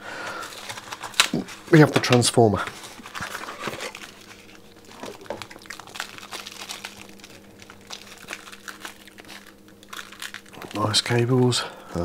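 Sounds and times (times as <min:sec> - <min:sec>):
faint steady hum: 0:00.0 - 0:12.0
plastic packaging crinkling: 0:00.2 - 0:11.6.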